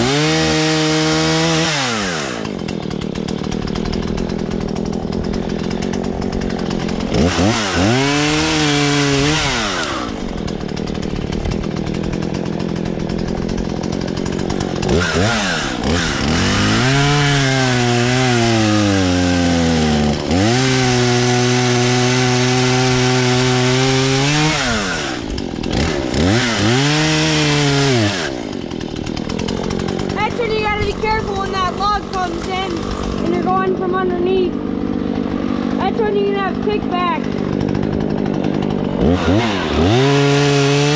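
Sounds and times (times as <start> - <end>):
chainsaw cutting tree: 0.0 - 40.9
chainsaw engine revving: 0.0 - 40.9.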